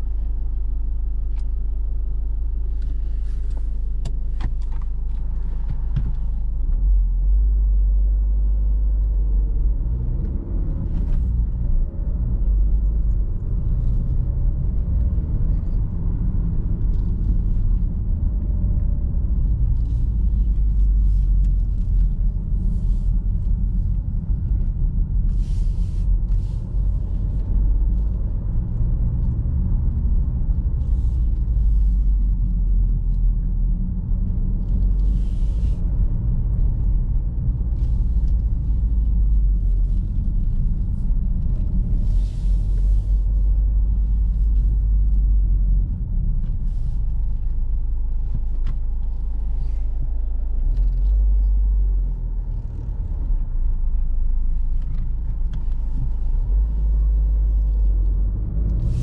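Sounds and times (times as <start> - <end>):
diesel car engine rumbling: 0.0 - 59.0.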